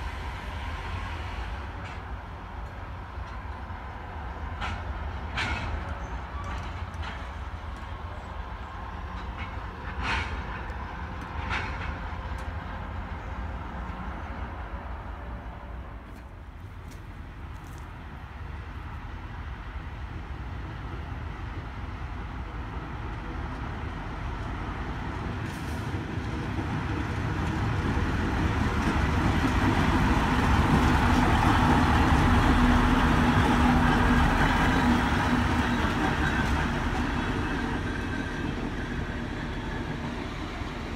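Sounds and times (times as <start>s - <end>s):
diesel locomotive passing: 0.0s - 40.9s.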